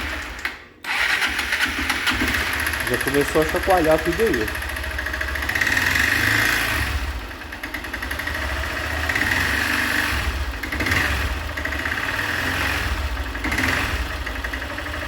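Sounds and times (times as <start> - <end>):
engine rattling and knocking: 1.6 - 15.0.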